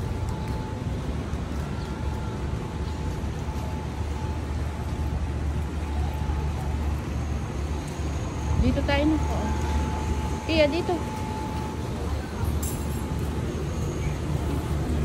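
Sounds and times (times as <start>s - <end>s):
faint steady hum: 0.0s - 15.0s
low rumble of street traffic: 0.0s - 15.0s.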